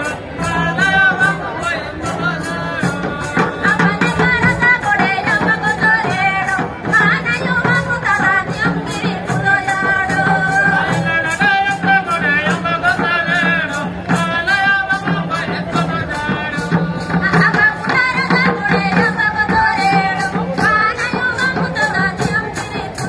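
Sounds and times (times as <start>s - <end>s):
folk singing wavering melody: 0.0s - 23.0s
steady drum beat: 0.0s - 23.0s.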